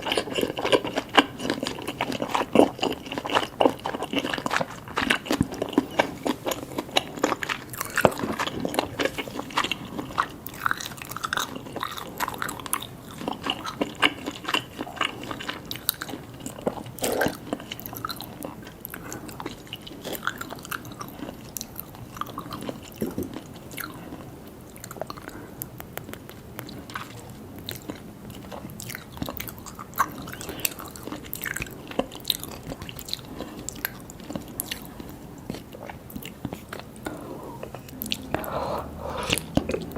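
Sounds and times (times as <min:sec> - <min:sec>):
person chewing seafood: 0:00.0 - 0:39.9.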